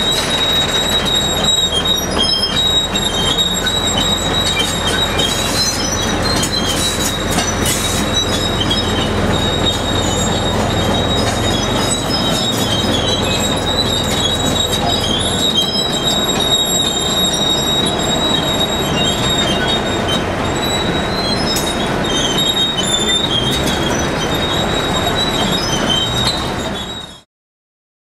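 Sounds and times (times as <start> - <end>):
steel wheels squealing on rails: 0.0 - 27.3.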